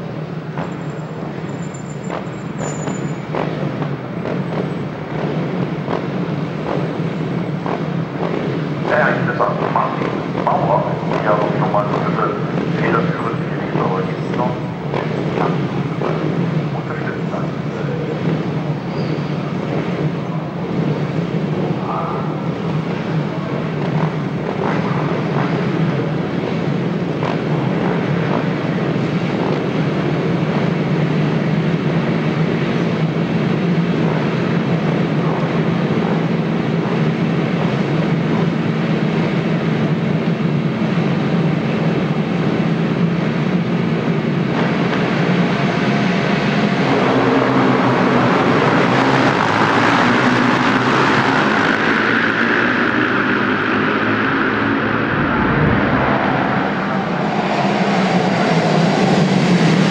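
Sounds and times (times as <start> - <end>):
motorcycle engines idling and revving: 0.0 - 59.9.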